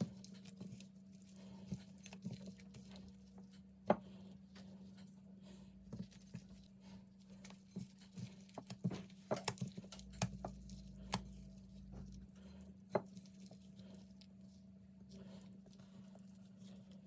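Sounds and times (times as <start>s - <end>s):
dough squelching in butter: 0.0s - 17.0s.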